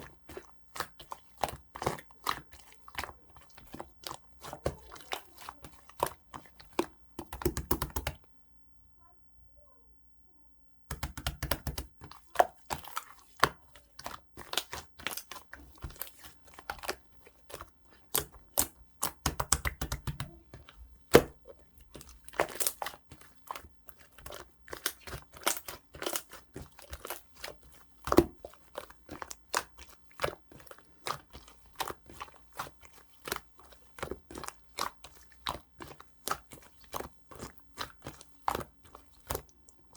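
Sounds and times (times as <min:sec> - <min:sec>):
slime squished by hand: 0:00.0 - 0:08.2, 0:10.9 - 0:39.9.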